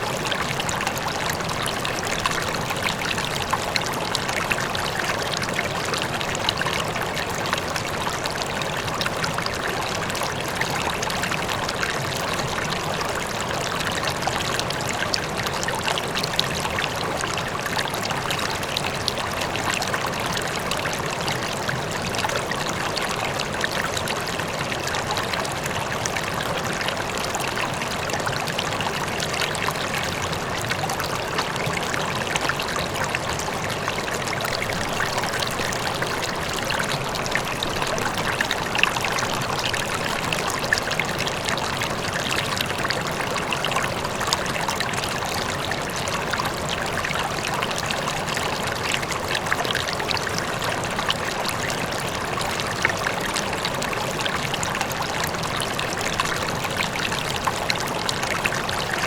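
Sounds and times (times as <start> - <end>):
faint waterfall: 0.0 - 59.0
river water rushing and babbling: 0.0 - 59.0.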